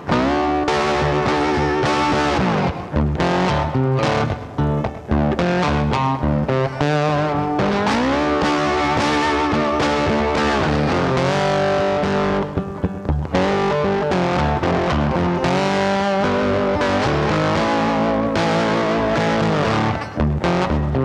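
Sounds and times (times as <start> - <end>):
guitar music with bending notes: 0.0 - 21.0.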